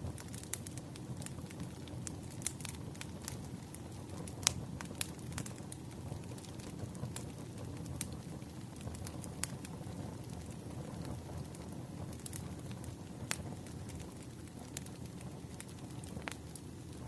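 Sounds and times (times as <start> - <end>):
firewood crackling and popping: 0.0 - 17.0
rumble of flame: 0.0 - 17.0.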